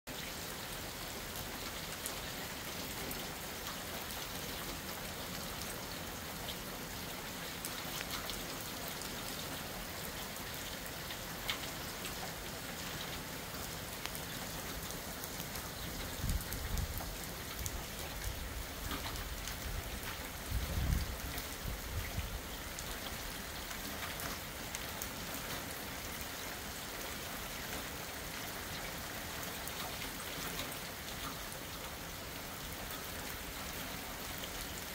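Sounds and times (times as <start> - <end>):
rain on concrete and shrubs: 0.1 - 34.9.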